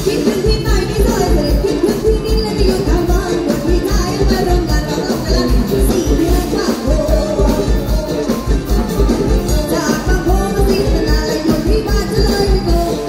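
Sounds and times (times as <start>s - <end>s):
woman singing into a microphone: 0.0s - 8.6s, 9.5s - 13.0s
live band music: 0.0s - 13.0s.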